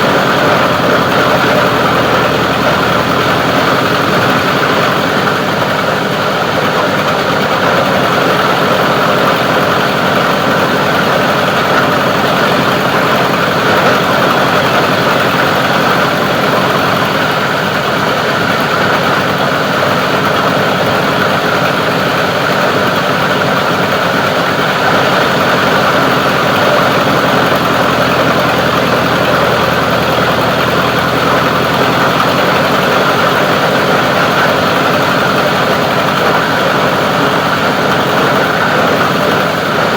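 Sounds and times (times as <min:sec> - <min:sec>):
plastic grinding machine running: 0:00.0 - 0:39.9.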